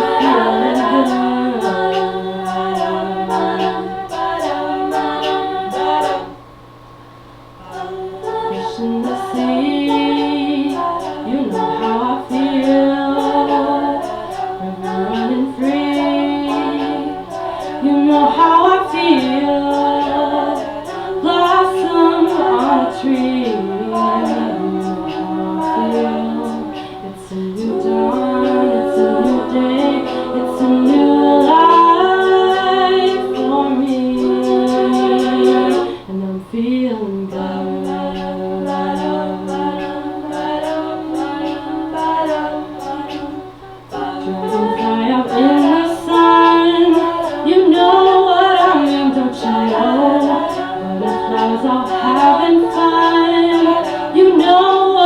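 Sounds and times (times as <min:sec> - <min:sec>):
a cappella group singing: 0:00.0 - 0:55.0
sharp percussive beat: 0:07.6 - 0:36.2, 0:37.3 - 0:55.0.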